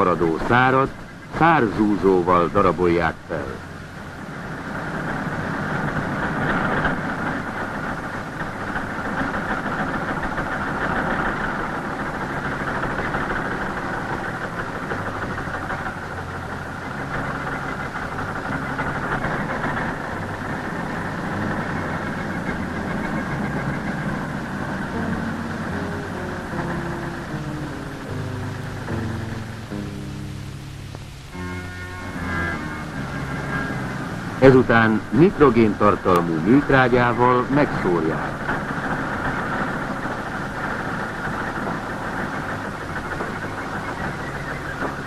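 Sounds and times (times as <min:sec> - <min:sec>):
tractor engine: 0:00.0 - 0:45.0.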